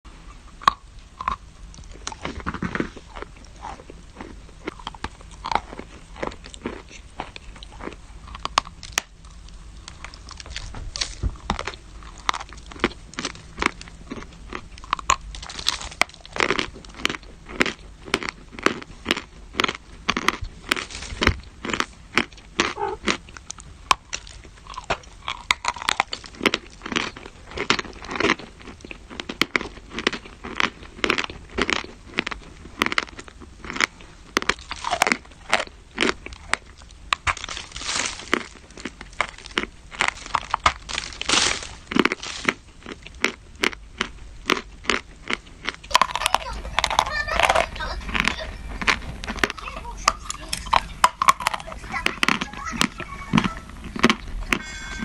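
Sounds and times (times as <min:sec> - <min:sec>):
crunchy food being chewed: 0:00.1 - 0:55.0.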